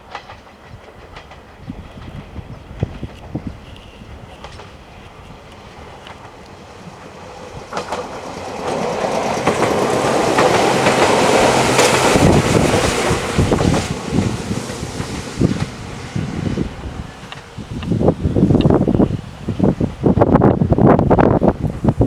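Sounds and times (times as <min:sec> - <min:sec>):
electric train running: 0:00.0 - 0:22.0
wheels clicking over rail joints: 0:00.0 - 0:22.0.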